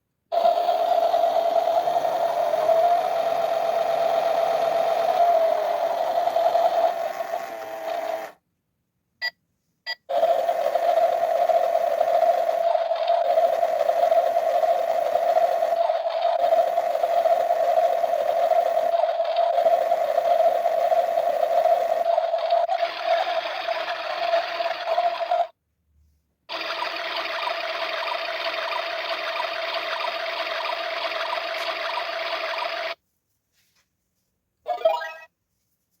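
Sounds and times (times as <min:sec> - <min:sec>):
toy motor whirring: 0:00.3 - 0:08.4, 0:10.1 - 0:25.5, 0:26.5 - 0:33.0.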